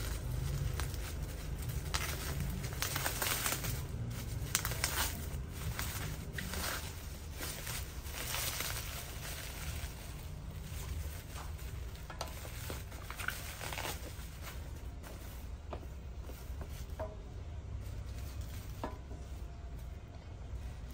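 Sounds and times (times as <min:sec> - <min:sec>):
plastic packaging crinkling: 0:00.0 - 0:20.9.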